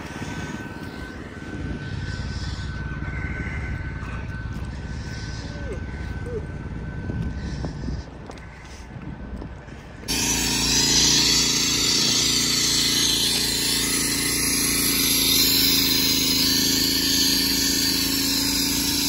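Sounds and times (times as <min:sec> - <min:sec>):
cut-off saw engine whine: 0:00.0 - 0:08.8, 0:09.6 - 0:19.0.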